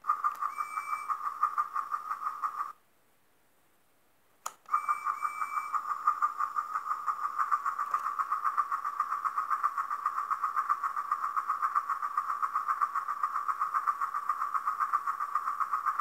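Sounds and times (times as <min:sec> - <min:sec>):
toy train chuffing sound effect: 0:00.0 - 0:02.8, 0:04.7 - 0:16.0.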